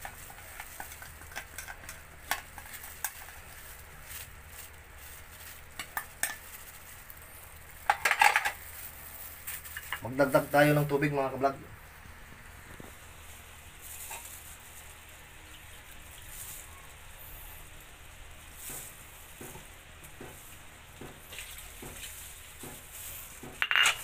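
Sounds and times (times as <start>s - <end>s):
liquid sizzling and bubbling: 0.0s - 10.9s, 11.7s - 24.0s.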